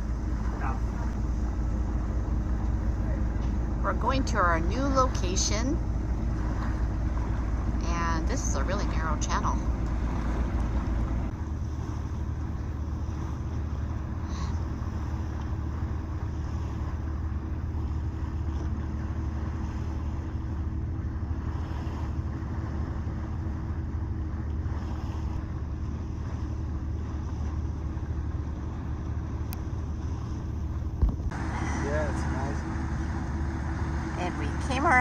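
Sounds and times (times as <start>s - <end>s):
boat engine droning: 0.0s - 35.0s.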